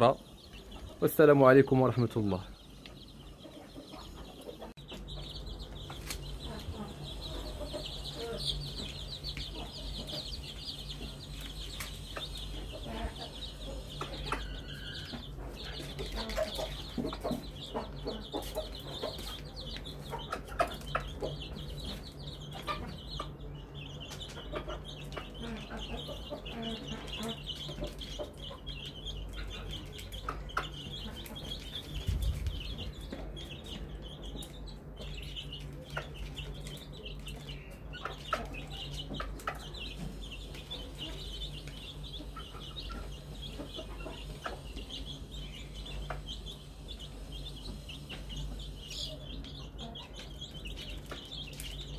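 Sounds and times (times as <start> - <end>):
chicks peeping: 0.0 - 51.9
hen clucking: 0.0 - 51.9.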